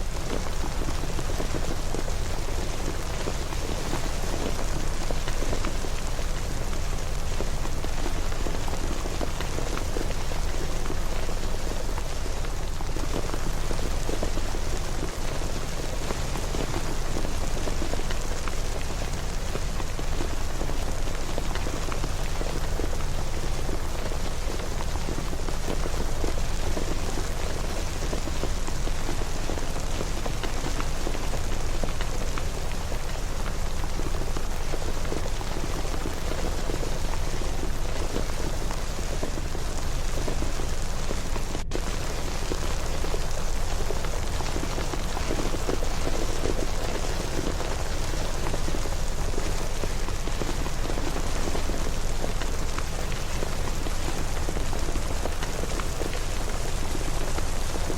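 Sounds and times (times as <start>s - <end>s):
rain hiss: 0.0s - 57.9s.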